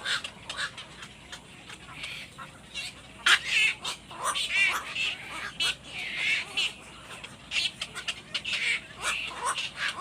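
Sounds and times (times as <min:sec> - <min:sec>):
young birds chirping and peeping: 0:00.0 - 0:10.0.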